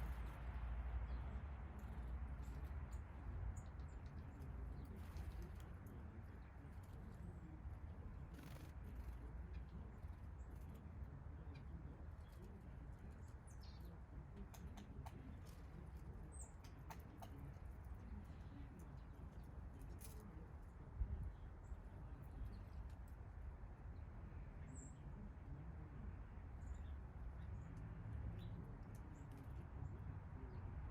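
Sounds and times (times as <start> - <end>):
low outdoor rumble: 0.0 - 30.9
songbirds chirping faintly: 0.0 - 30.9.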